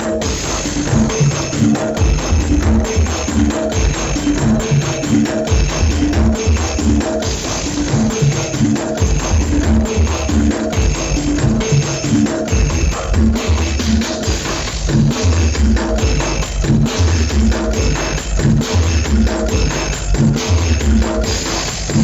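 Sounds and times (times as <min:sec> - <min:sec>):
loud dance music: 0:00.0 - 0:22.0.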